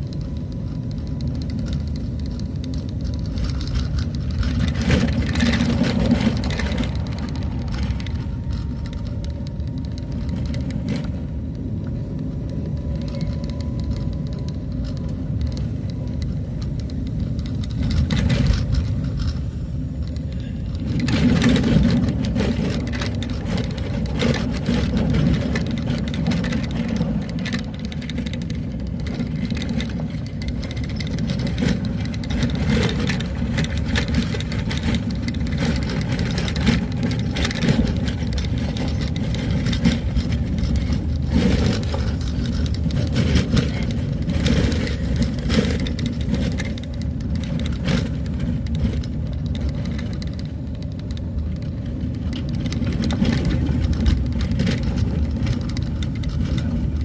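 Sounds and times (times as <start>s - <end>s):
rattles and knocks: 0.0s - 57.0s
vehicle engine and road rumble: 0.0s - 57.0s.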